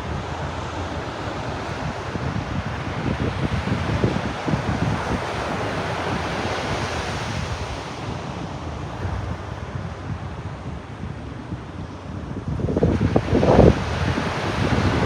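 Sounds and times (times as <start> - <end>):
ocean surf washing onto beach: 0.0 - 15.0
wind rumbling on microphone: 0.0 - 15.0.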